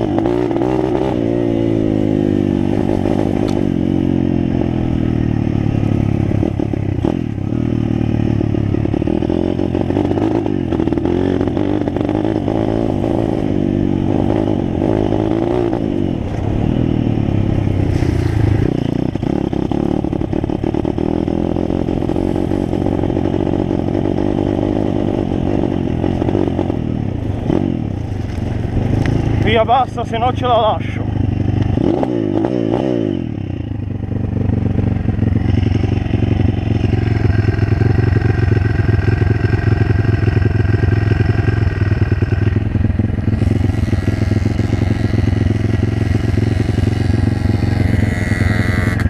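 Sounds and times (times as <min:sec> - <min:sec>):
motorbike engine revving: 0:00.0 - 0:49.0.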